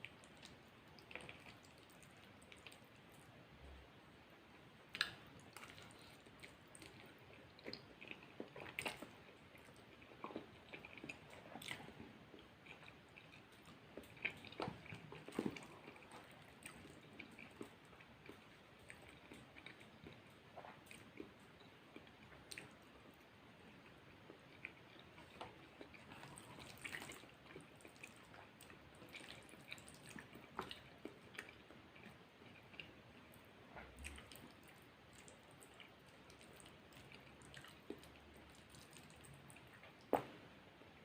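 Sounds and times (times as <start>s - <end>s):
close chewing of food: 0.0s - 41.0s.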